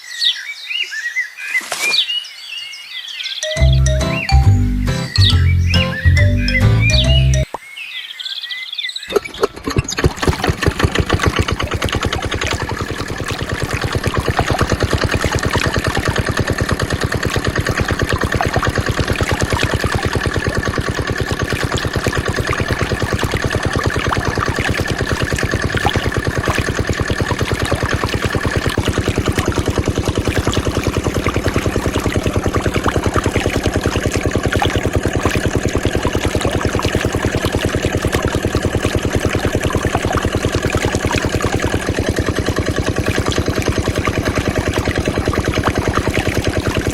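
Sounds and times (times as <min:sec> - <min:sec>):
diesel engine driving water pump: 0:09.1 - 0:46.9.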